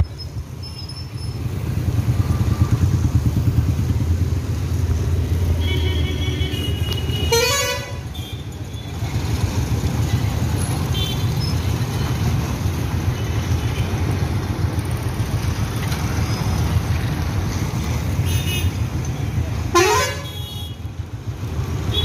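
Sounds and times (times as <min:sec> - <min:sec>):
vehicles passing on street: 0:00.0 - 0:22.0.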